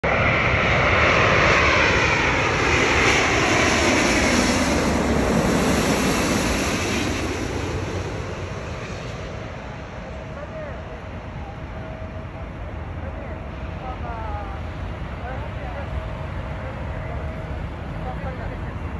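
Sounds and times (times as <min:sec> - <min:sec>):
jet rush with descending whine: 0:00.1 - 0:18.9.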